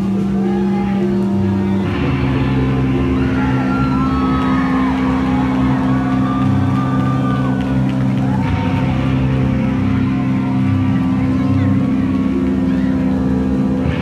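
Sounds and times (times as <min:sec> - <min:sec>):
drums: 0:00.0 - 0:14.0
heavy bass guitar: 0:00.0 - 0:14.0.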